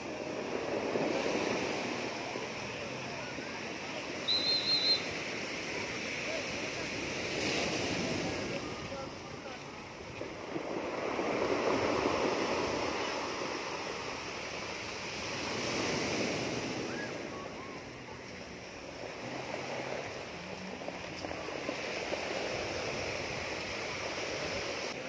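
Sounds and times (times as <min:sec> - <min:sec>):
surf washing up stony beach: 0:00.0 - 0:25.0.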